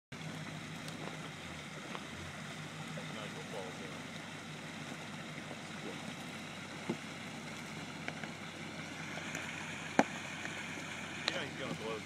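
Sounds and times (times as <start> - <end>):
car engine running at low speed: 0.1 - 12.0
water rushing over rocks: 0.1 - 12.0.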